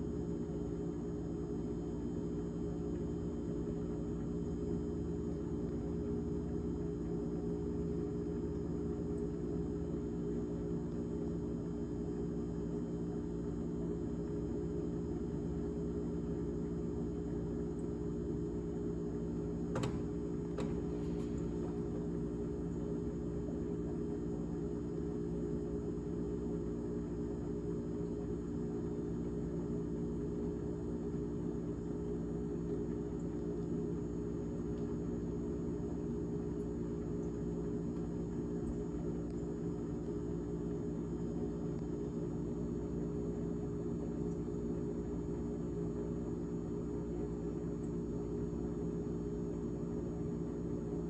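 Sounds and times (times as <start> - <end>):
refrigerator humming: 0.0 - 51.0.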